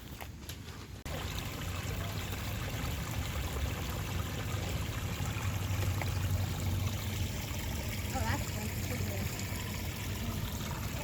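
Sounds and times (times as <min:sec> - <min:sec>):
rushing water: 0:01.1 - 0:11.0.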